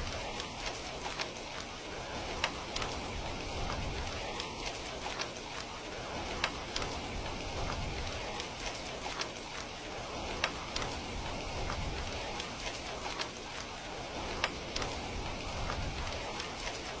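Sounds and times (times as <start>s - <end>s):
heavy rain falling: 0.0s - 17.0s
sharp water drips: 0.0s - 17.0s.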